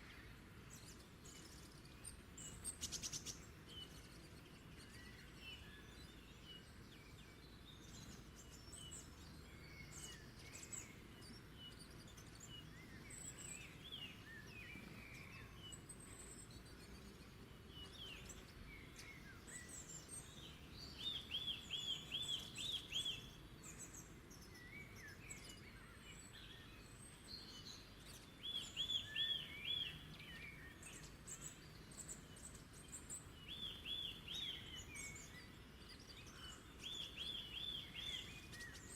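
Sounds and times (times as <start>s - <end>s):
faint low background hum: 0.0s - 38.9s
wild birds singing and calling: 0.0s - 38.9s.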